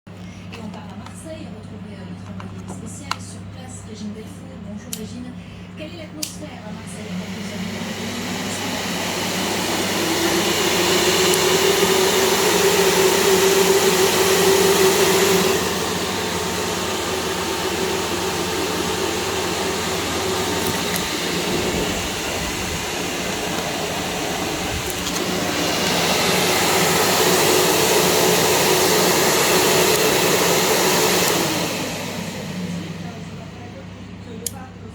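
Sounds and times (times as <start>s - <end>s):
fume extractor fan whooshing: 2.8s - 34.9s.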